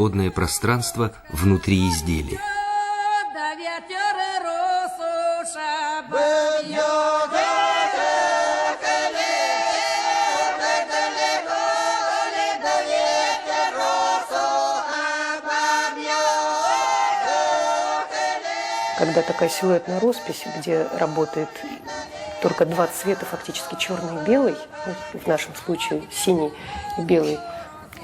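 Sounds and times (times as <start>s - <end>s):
choral singing: 0.0s - 28.0s.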